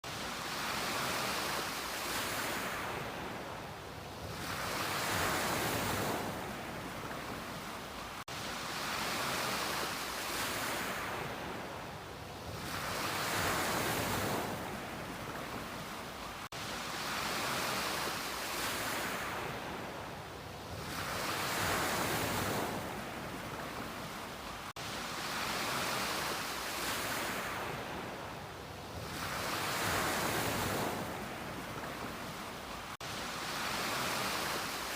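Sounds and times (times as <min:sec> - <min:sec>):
ocean waves breaking on beach: 0:00.0 - 0:34.9.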